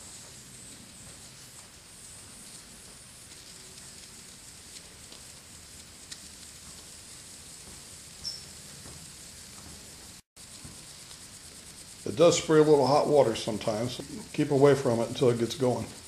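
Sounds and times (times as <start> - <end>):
steam hissing and sizzling: 0.0 - 16.0.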